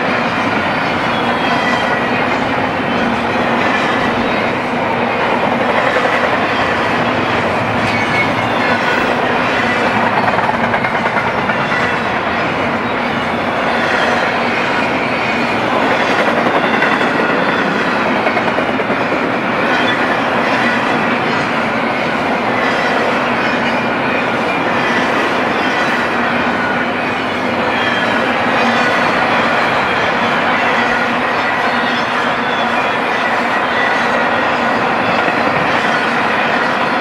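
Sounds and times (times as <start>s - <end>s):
train wheels rolling with clickety-clack: 0.0s - 37.0s.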